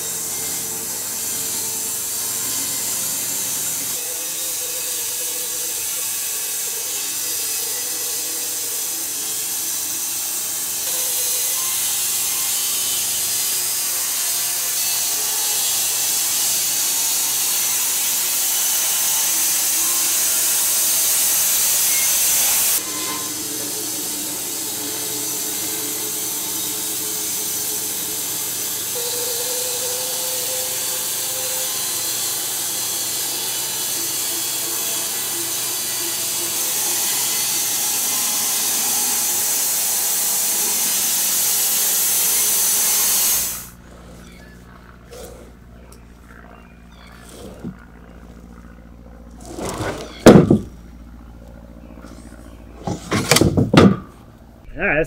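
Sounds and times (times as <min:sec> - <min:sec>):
bandsaw blade cutting log: 0:00.0 - 0:44.5, 0:47.3 - 0:47.9, 0:49.3 - 0:50.8, 0:52.8 - 0:54.2
sawmill machine running: 0:00.0 - 0:55.0.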